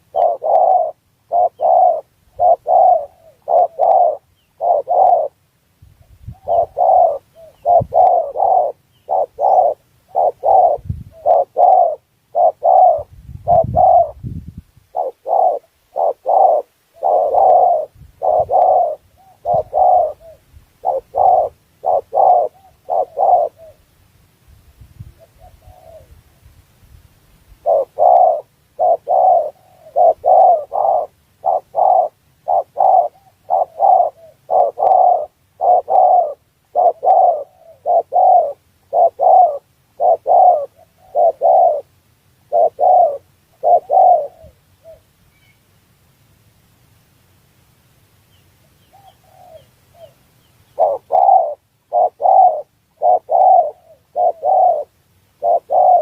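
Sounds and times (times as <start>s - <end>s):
dove cooing: 0.0s - 5.4s, 6.2s - 14.3s, 14.9s - 23.9s, 25.1s - 26.2s, 27.6s - 45.1s, 48.8s - 56.0s.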